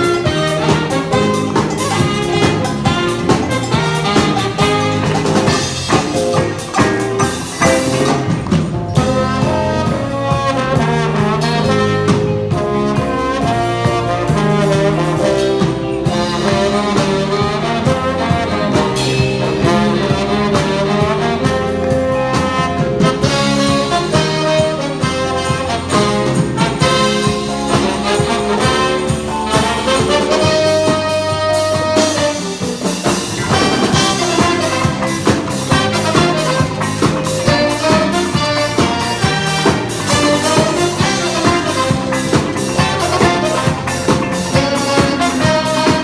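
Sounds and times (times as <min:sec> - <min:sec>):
horns playing melody: 0:00.0 - 0:46.0
jazz band music: 0:00.0 - 0:46.0
steady drum beat: 0:00.0 - 0:46.0.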